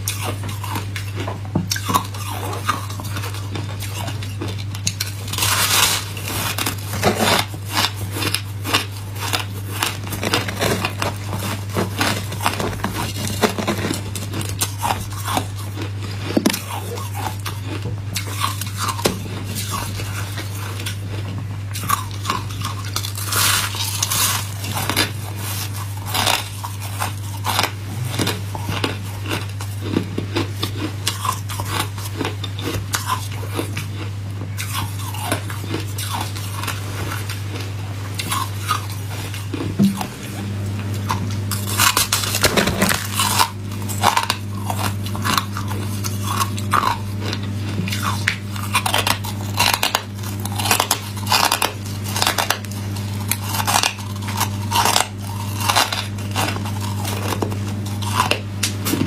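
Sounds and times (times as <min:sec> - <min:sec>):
steady low hum: 0:00.0 - 0:59.0
shaved ice crunching: 0:00.1 - 0:19.0, 0:21.8 - 0:33.8, 0:41.5 - 0:59.0.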